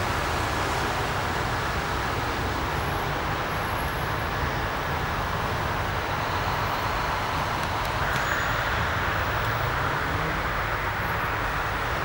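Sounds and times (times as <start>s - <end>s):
roadway traffic noise: 0.0s - 12.0s.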